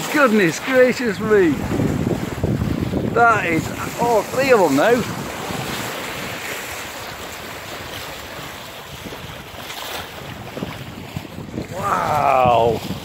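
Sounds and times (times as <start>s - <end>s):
water rushing along a boat hull: 0.0s - 13.0s
wind on the microphone: 0.5s - 13.0s.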